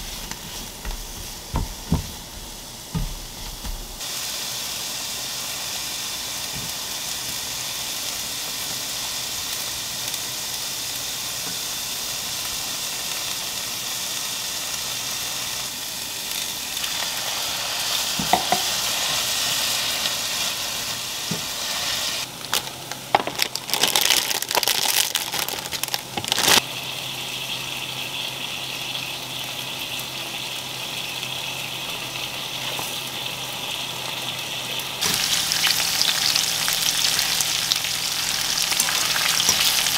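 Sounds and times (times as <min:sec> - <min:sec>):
onions sizzling in a frying pan: 0:00.0 - 0:39.9.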